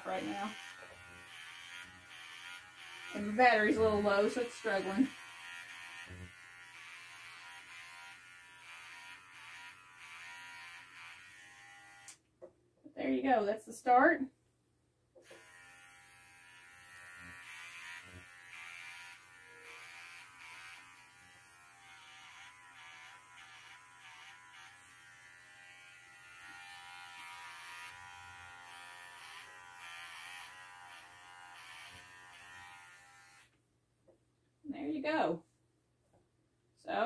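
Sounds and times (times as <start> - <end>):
electric dog clipper humming: 0.0 - 12.2, 15.2 - 33.5.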